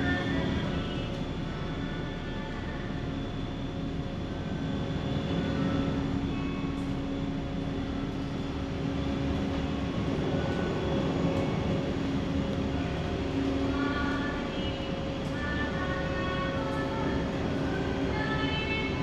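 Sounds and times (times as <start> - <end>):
ferry engine rumble: 0.0 - 19.0.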